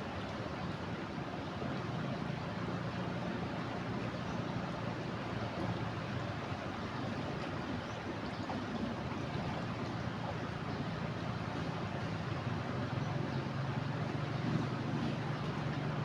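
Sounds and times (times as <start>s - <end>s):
river rushing in flood: 0.0s - 16.0s.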